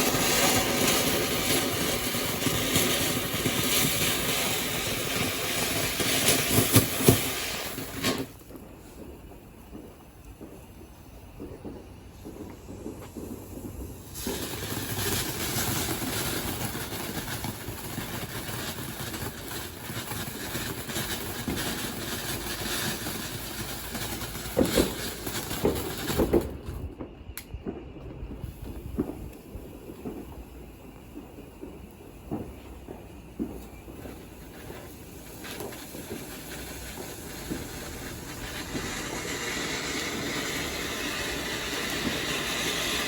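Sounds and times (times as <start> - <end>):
firework fountain hissing and crackling: 0.0 - 43.0
firework pops: 0.0 - 43.0.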